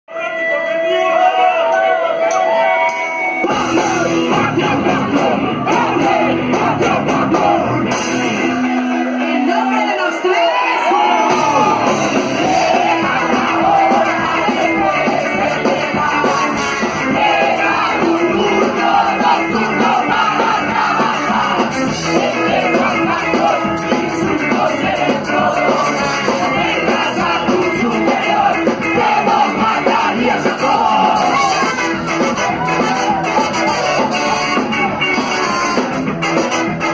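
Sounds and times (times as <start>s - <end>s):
live rock band playing: 0.1s - 36.9s
shouted singing: 1.0s - 36.0s.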